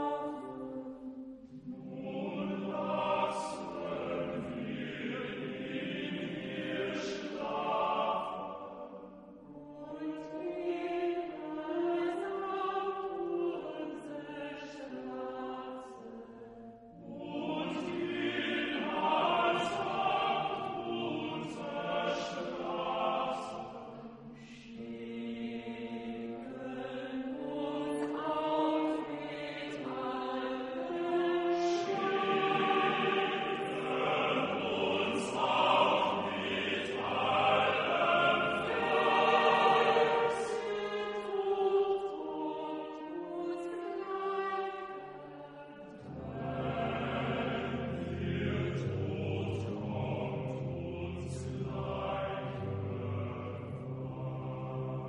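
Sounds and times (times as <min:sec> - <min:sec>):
group singing held chords: 0:00.0 - 0:55.0.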